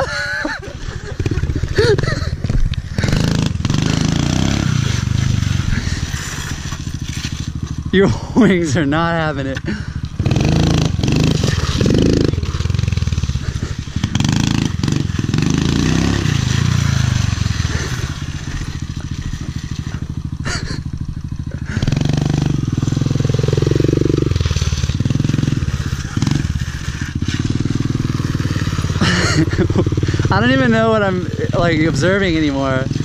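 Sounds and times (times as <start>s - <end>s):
small motorbike engine revving: 0.0s - 33.0s.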